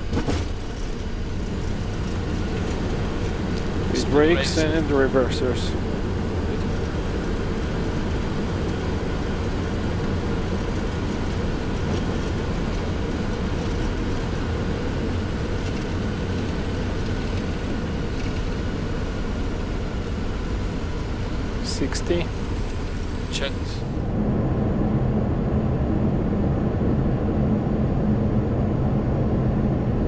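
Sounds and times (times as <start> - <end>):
aircraft landing rumble in cockpit: 0.0 - 30.0.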